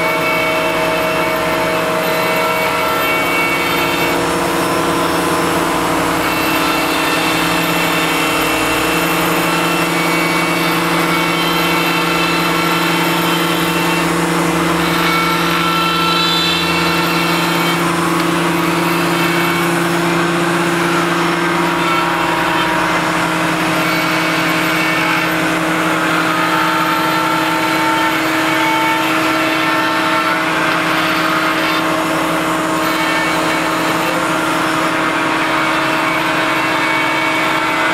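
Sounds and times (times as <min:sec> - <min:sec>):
burr grinding marble: 0:00.0 - 0:37.9
grinder motor whine: 0:00.0 - 0:37.9.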